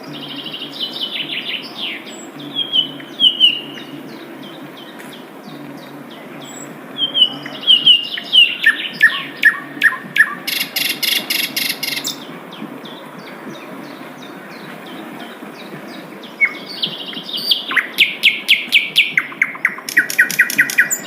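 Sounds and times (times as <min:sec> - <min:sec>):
flycatcher singing: 0:00.0 - 0:21.0.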